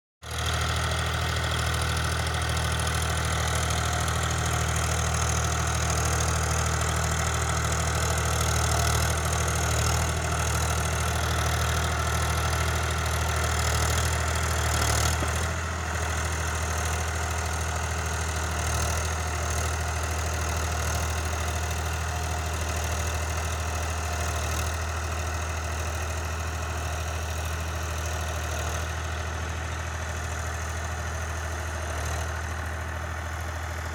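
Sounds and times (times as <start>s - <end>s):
diesel tractor engine running: 0.2s - 33.9s.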